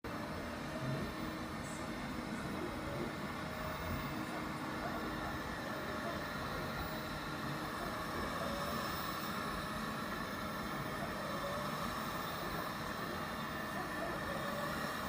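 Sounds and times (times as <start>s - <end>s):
robot suction fan whirring: 0.1s - 15.0s.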